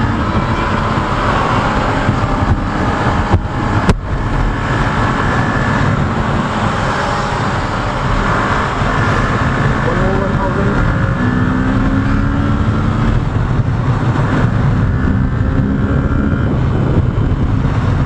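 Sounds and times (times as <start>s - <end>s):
motorcycle engine drone: 0.0s - 18.0s
wind rush on microphone: 0.0s - 18.0s.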